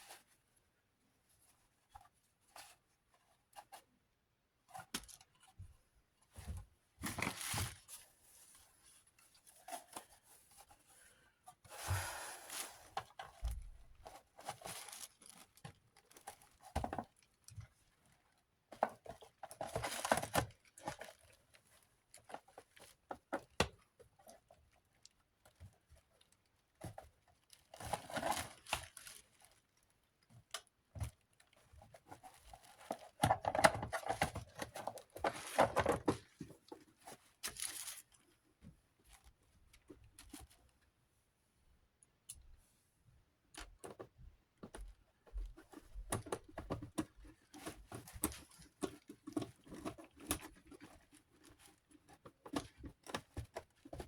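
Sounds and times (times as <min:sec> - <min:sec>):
rubbing and crinkling: 0:00.0 - 0:40.9, 0:43.6 - 0:54.0.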